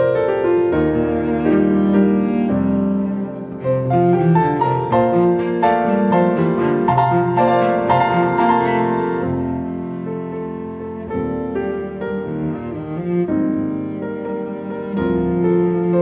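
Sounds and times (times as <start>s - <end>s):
low bowed strings: 0.0s - 16.0s
piano notes: 0.0s - 16.0s.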